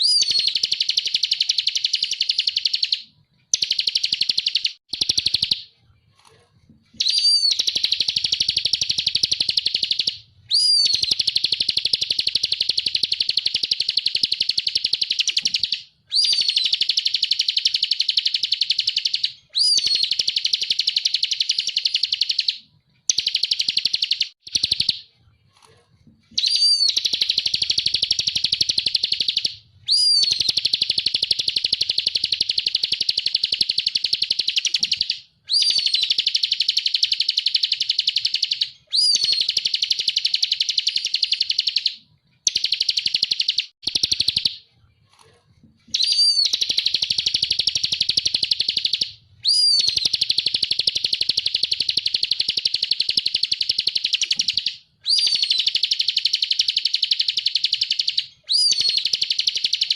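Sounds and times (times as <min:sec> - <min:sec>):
bird singing high chattering notes: 0:00.0 - 0:05.7, 0:07.0 - 0:25.1, 0:26.4 - 0:44.6, 0:45.9 - 0:59.9
bird whistle rising and falling: 0:00.0 - 0:05.7, 0:07.0 - 0:25.0, 0:26.4 - 0:44.6, 0:45.9 - 0:59.9.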